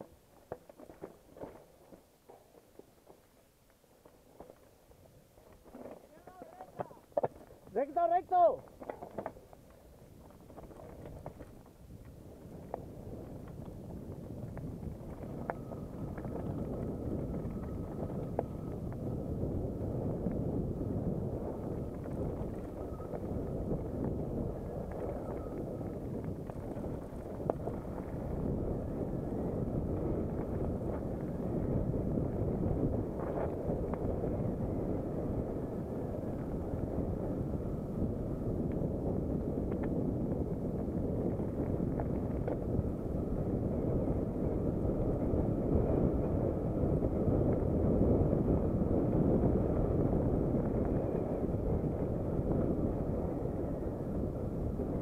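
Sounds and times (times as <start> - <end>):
bike tyres rolling on gravel: 0.0 - 55.0
stones and bike rattling: 0.0 - 55.0
wind on microphone: 5.8 - 55.0.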